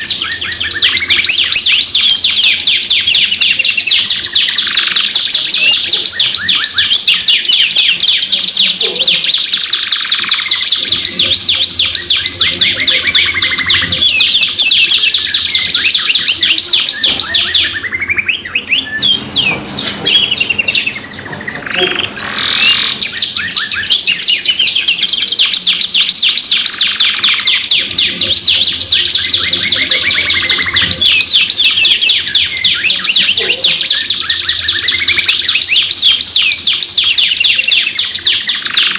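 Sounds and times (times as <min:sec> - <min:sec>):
canaries trilling: 0:00.0 - 0:38.9.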